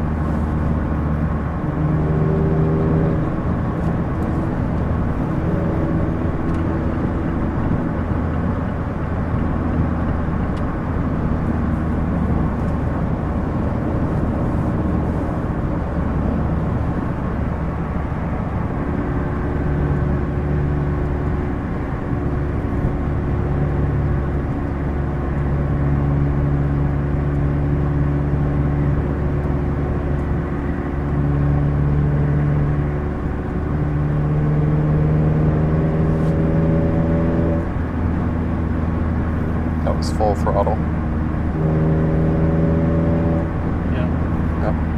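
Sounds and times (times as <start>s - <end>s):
car exhaust note: 0.0s - 44.9s
road noise: 0.0s - 44.9s.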